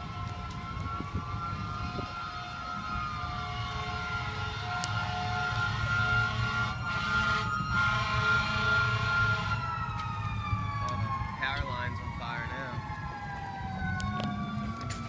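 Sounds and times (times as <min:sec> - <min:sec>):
fire engine siren wailing: 0:00.0 - 0:15.0
road noise: 0:00.0 - 0:15.0
truck engine rumble: 0:00.0 - 0:15.0.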